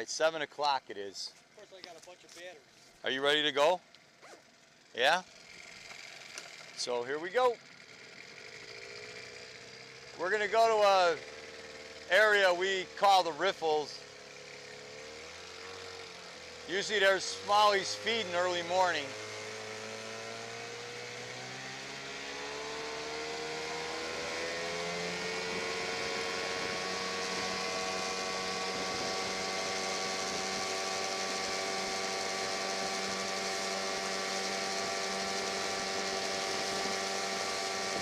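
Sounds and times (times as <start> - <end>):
outboard motor running: 1.4 - 38.0.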